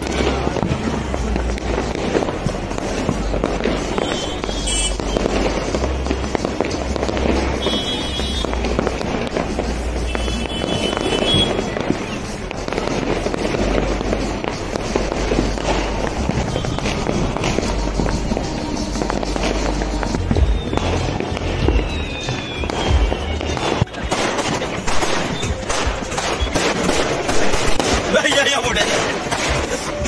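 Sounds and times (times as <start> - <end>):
fireworks popping and banging: 0.0 - 30.0.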